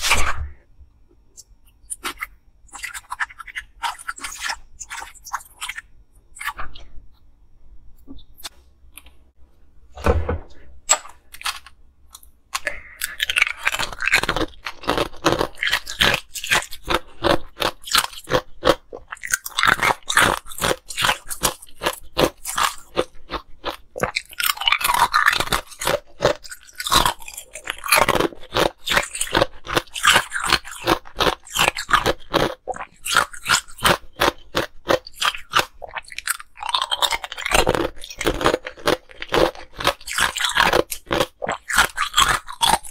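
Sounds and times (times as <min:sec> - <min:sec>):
ice being chewed: 0:01.9 - 0:06.9, 0:11.4 - 0:42.9.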